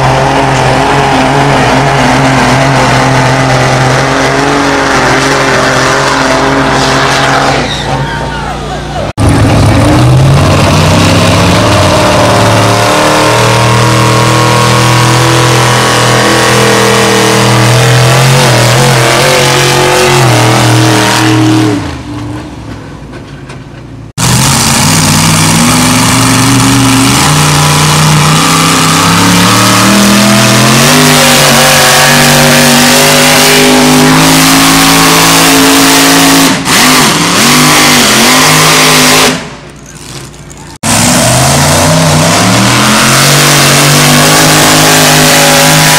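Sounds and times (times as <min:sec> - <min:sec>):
engine running under heavy load: 0:08.1 - 0:45.9.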